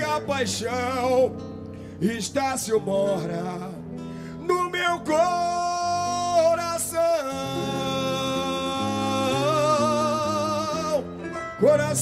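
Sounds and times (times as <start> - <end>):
accompanying chords: 0.0 - 12.0.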